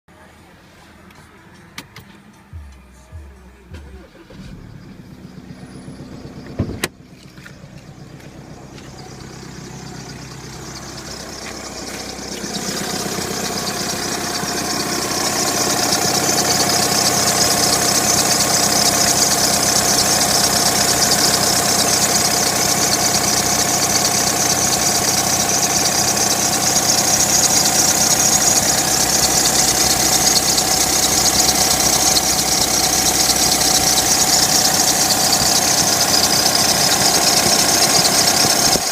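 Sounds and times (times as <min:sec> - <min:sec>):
car engine running with hiss: 0:00.1 - 0:38.9
engine whine: 0:00.3 - 0:38.9.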